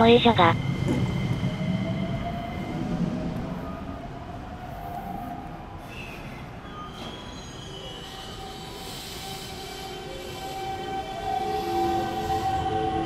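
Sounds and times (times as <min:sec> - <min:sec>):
subway train rolling: 0:00.0 - 0:13.0
train squeal: 0:00.0 - 0:13.0.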